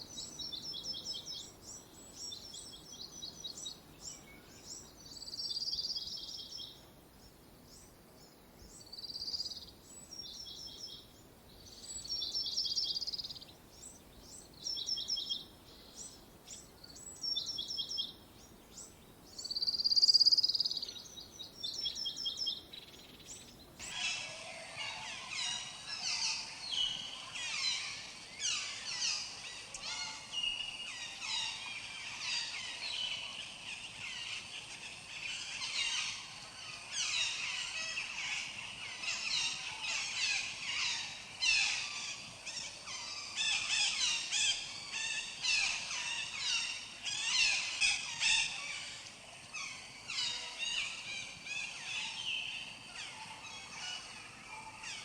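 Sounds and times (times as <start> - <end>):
chorus of birds chirping: 0.0 - 55.0.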